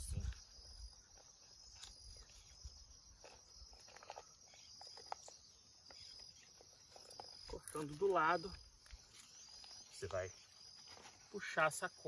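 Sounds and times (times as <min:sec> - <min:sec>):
high insect chorus: 0:00.0 - 0:12.0.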